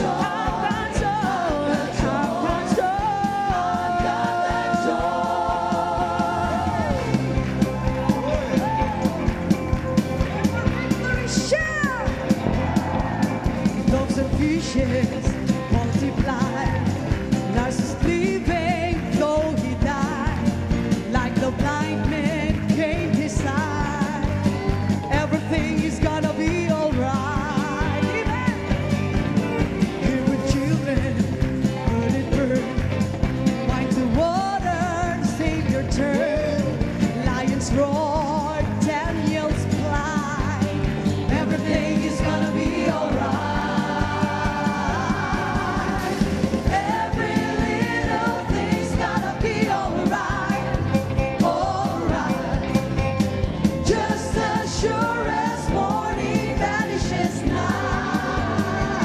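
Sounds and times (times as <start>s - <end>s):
people singing: 0.0s - 7.6s, 12.5s - 32.8s, 33.4s - 59.0s
steady drum beat: 0.0s - 59.0s
worship song with band: 0.0s - 59.0s.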